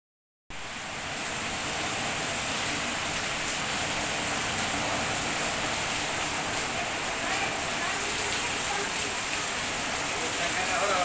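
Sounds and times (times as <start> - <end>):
heavy rain pouring: 0.5 - 11.0.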